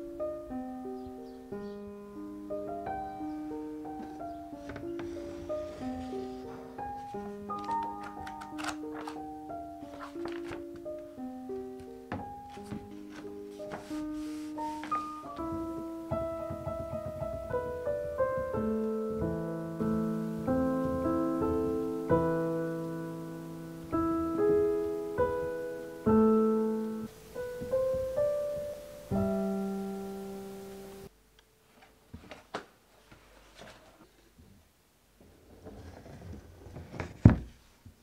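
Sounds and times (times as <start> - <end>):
digital piano melody: 0.0 - 31.3.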